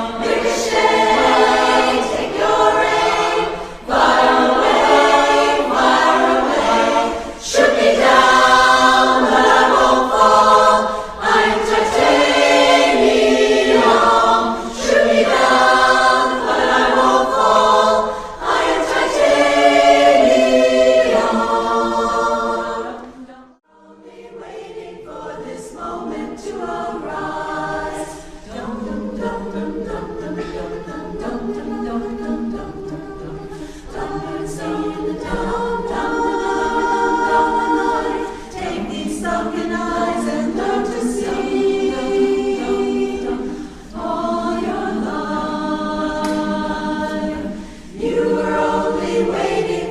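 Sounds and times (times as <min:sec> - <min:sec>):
chorus singing in harmony: 0:00.0 - 0:49.9.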